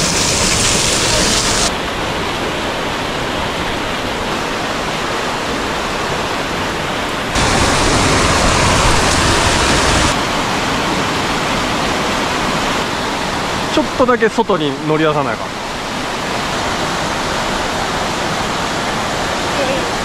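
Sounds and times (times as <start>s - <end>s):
mountain stream cascading: 0.0s - 20.0s.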